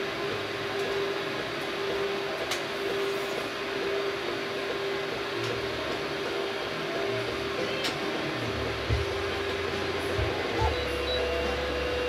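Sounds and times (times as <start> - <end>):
fan noise: 0.0 - 12.0
printer motor humming: 0.0 - 12.0.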